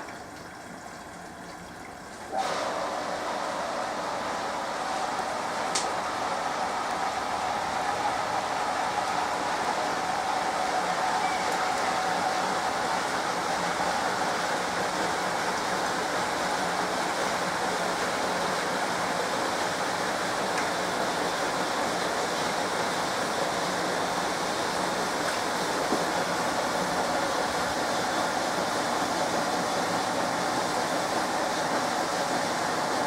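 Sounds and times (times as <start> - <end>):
washing machine running: 0.0 - 33.0.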